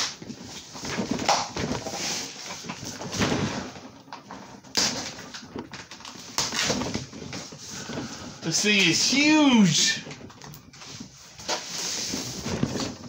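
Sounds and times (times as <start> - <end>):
cardboard scraping and rustling: 0.0 - 13.0.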